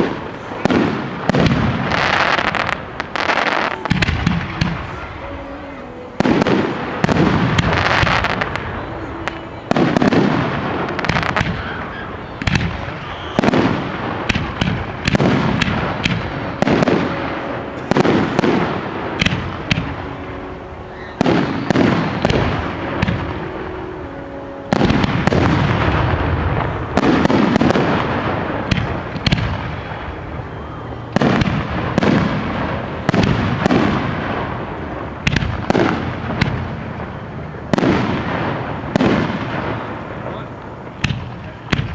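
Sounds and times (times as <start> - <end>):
rumbling echo: 0.0 - 41.9.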